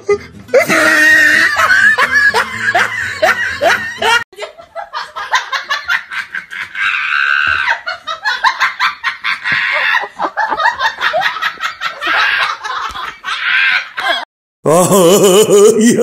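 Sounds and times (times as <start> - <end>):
rapid laughter: 0.0 - 16.0.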